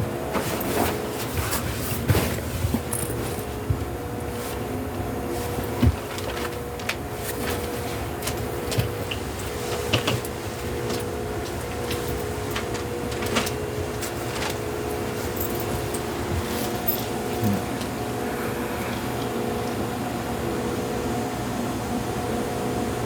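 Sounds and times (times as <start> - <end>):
train running hum: 0.0 - 23.0.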